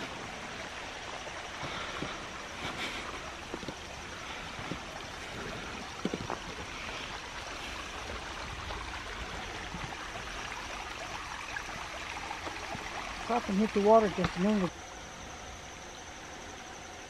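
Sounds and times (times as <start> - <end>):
creek trickling over rocks: 0.0 - 15.0.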